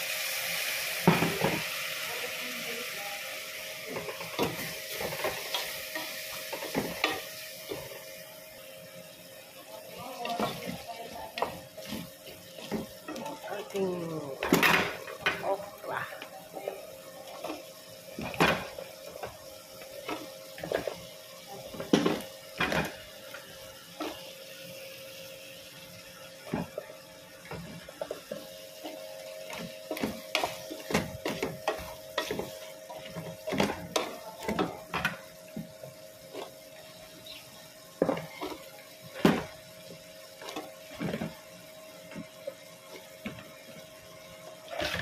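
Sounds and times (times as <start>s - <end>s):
sauce sizzling: 0.0s - 45.0s.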